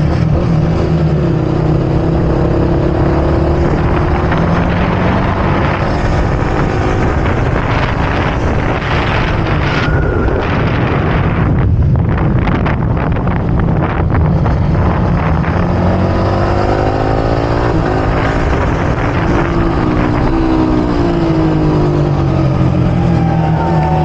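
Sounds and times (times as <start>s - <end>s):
motorcycle engine running: 0.0s - 24.0s
wind noise on microphone: 0.0s - 24.0s.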